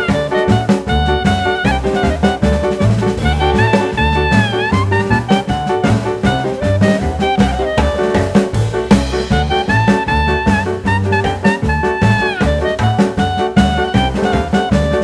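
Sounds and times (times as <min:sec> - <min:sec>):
upbeat jazz swing music: 0:00.0 - 0:15.0.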